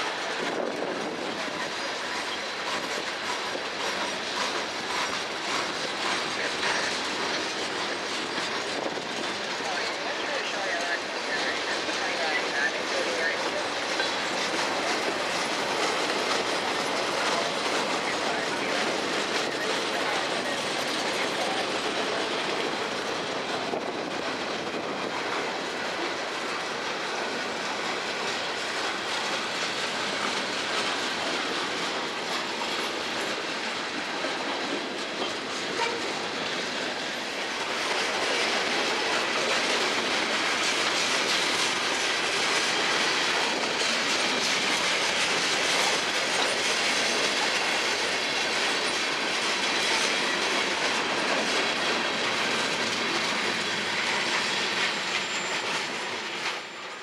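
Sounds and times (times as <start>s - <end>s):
freight cars rolling on rails: 0.0s - 57.0s.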